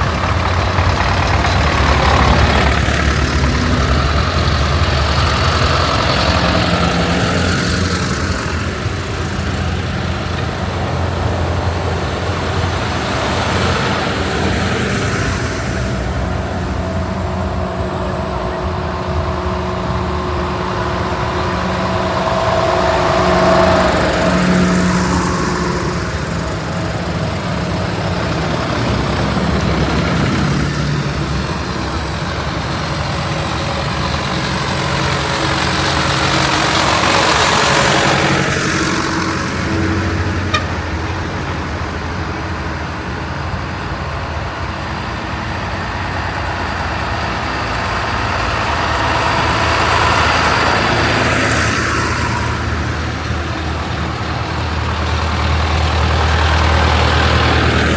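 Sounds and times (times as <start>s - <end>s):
tractor engines running: 0.0s - 57.9s.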